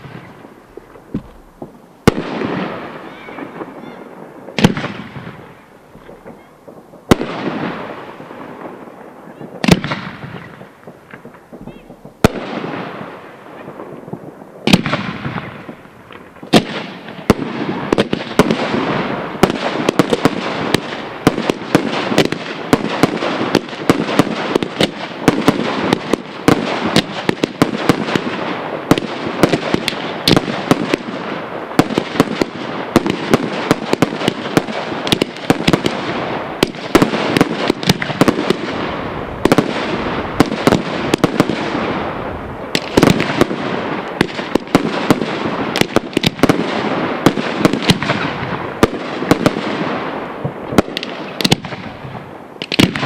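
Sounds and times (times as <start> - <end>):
firework bangs: 0.0 - 53.0
fireworks crackling: 0.0 - 53.0.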